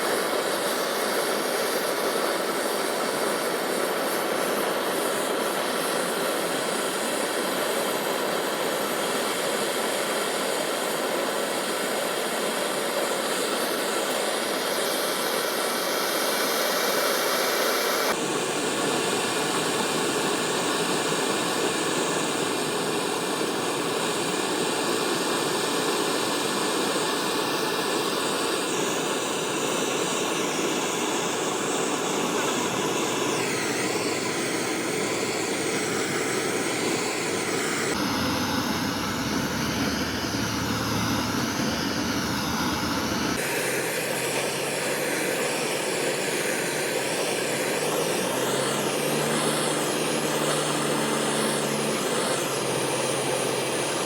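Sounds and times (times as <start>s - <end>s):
workshop machinery noise: 0.0s - 54.0s.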